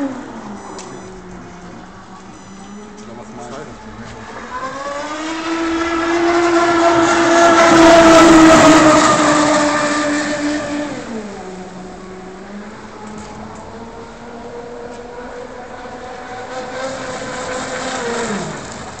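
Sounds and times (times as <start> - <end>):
boat motor whining: 0.0 - 19.0.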